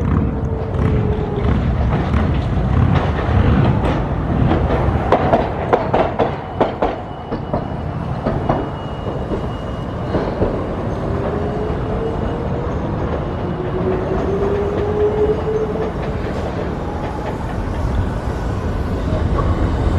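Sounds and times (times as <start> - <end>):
streetcar low rumble: 0.0 - 19.9.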